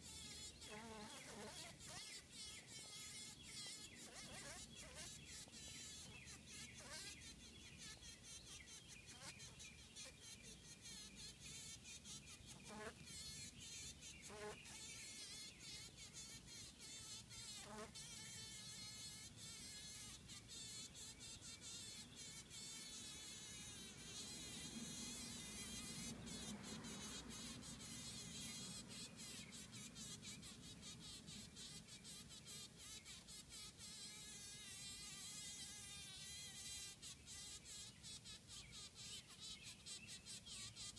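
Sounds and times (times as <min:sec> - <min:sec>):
bee buzzing faintly: 0:00.0 - 0:40.9.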